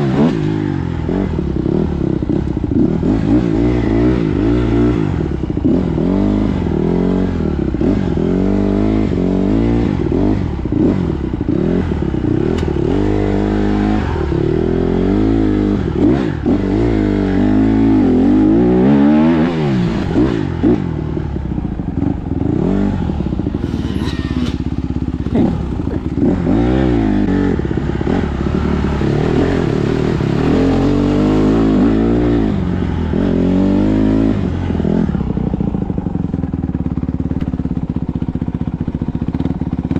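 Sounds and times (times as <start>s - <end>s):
dirt bike engine revving: 0.0s - 38.1s.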